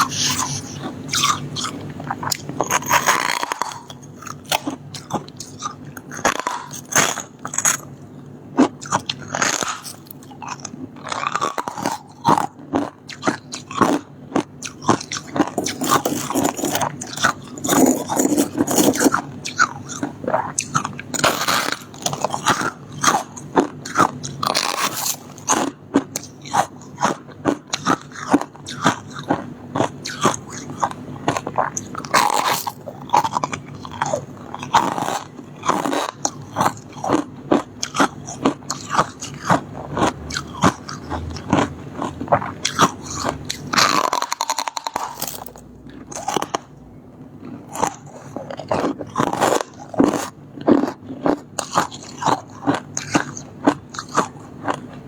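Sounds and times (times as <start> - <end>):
crunching ice while chewing: 0.0 - 55.0.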